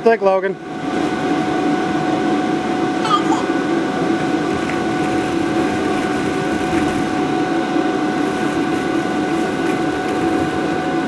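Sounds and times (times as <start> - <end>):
electric blower fan droning: 0.0 - 11.0.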